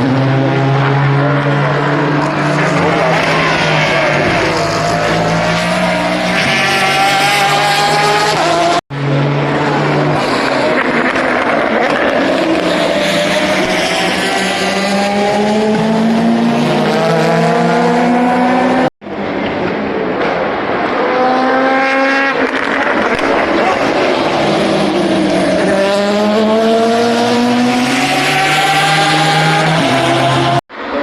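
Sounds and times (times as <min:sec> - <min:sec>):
race car engines accelerating: 0:00.0 - 0:31.0.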